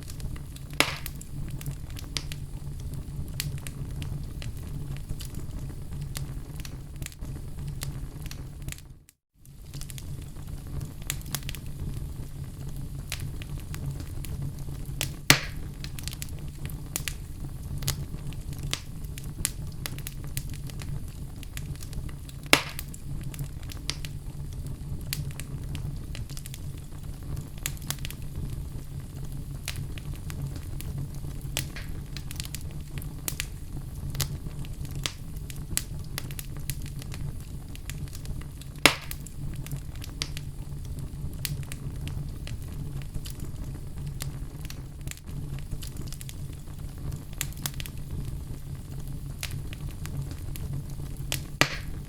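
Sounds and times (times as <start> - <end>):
logs crackling in fire: 0.0 - 52.0
loud fire pops: 0.0 - 52.0
low fire rumble: 0.0 - 52.0.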